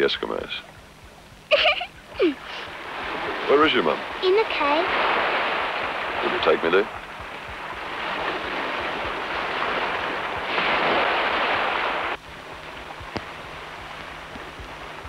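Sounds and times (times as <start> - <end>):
small waves breaking on rock: 2.6 - 15.0.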